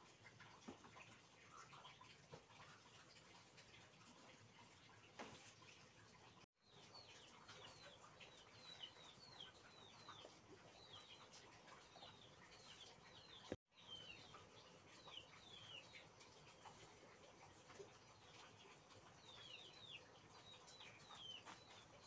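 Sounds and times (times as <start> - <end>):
faint birds chirping: 0.1 - 22.0.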